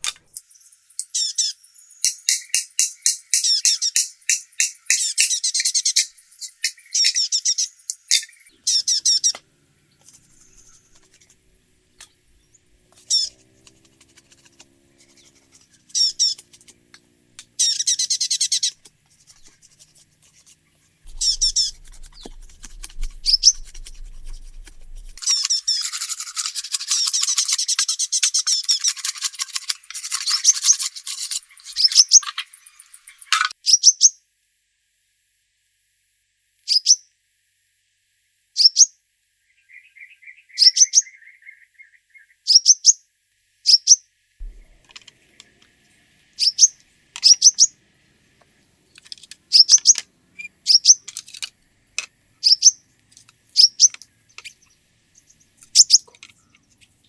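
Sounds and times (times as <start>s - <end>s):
small birds chirping: 0.4s - 34.2s, 36.7s - 37.0s, 38.6s - 38.9s, 39.6s - 43.0s, 43.6s - 57.0s.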